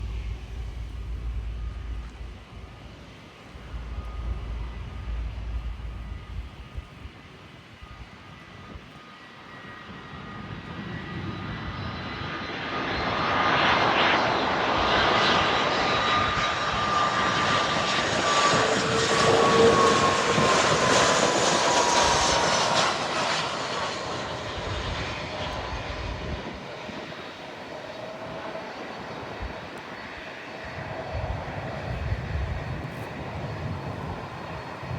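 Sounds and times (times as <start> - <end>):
jet airliner flying past: 0.0 - 34.9.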